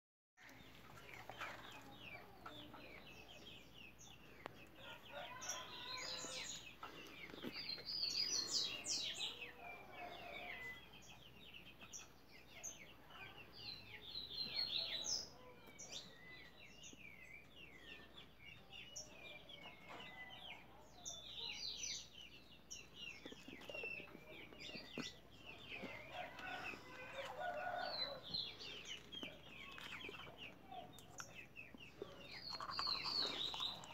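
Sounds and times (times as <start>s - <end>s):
chickens clucking: 0.4s - 21.4s, 22.0s - 33.9s
small birds chirping: 0.4s - 33.9s.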